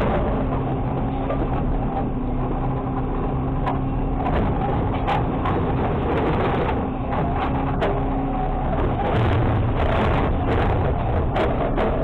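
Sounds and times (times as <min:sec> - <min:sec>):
garbage truck diesel engine droning: 0:00.0 - 0:12.0.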